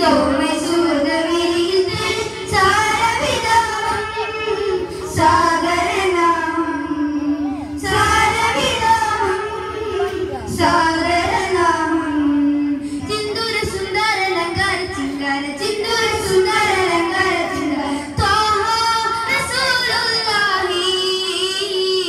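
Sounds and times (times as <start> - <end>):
boys singing devotional song: 0.0 - 22.0.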